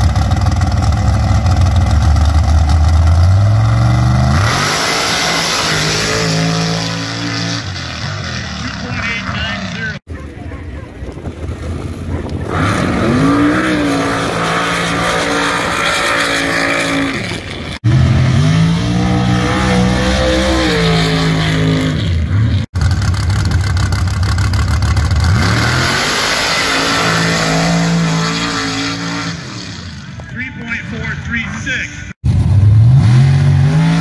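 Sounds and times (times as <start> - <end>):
truck engines revving at full throttle: 0.0 - 34.0.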